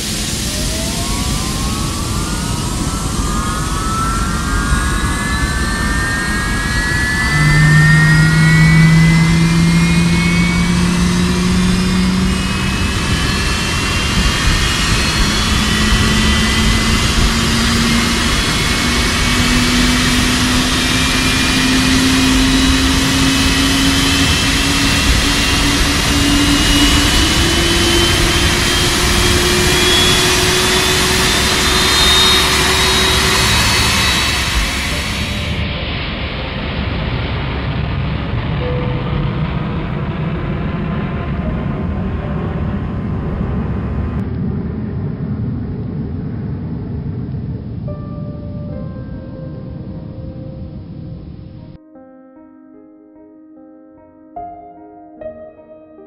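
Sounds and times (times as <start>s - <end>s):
jet engine whining: 0.0s - 51.8s.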